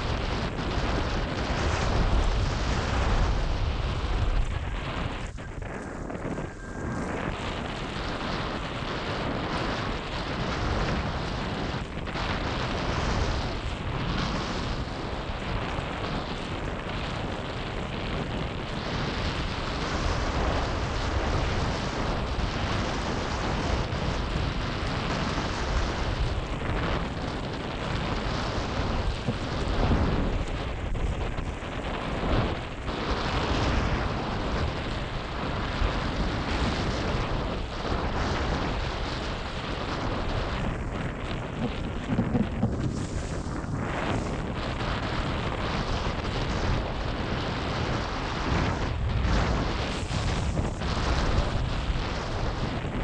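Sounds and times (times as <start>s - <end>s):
strong wind buffeting microphone: 0.0s - 53.0s.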